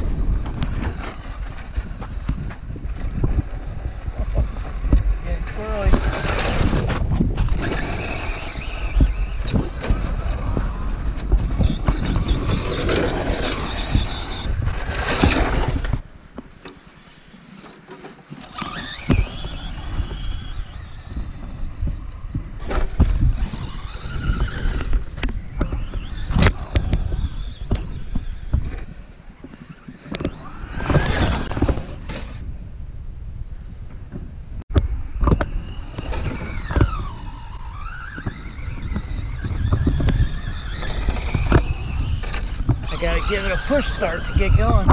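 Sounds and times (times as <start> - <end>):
rc truck motor whining: 0.0 - 16.0, 17.0 - 32.4, 34.7 - 44.9.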